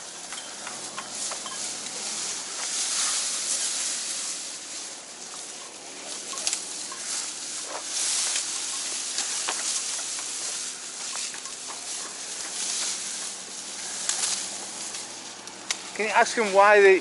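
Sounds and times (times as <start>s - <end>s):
elephants chewing dry grass: 0.0s - 17.0s.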